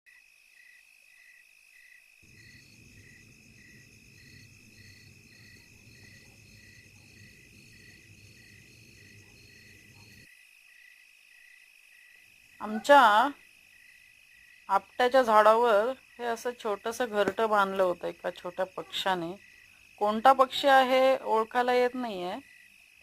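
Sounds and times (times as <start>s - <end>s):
crickets trilling: 0.1s - 23.0s.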